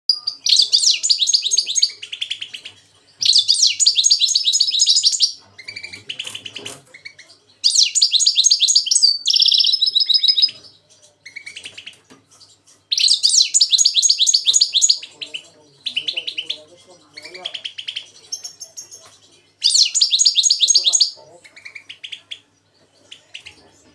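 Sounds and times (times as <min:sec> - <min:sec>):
finches twittering song: 0:00.1 - 0:23.9.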